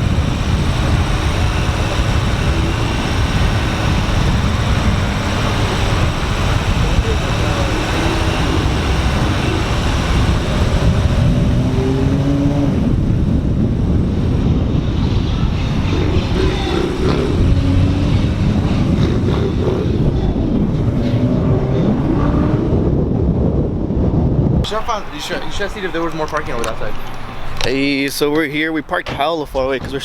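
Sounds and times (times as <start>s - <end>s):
car engine: 0.0s - 30.0s.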